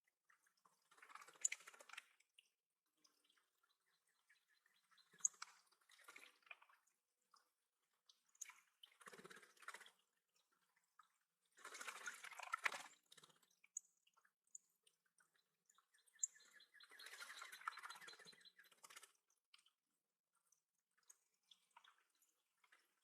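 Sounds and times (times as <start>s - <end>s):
faint splashing water: 0.0s - 23.0s
water drips: 0.1s - 23.0s.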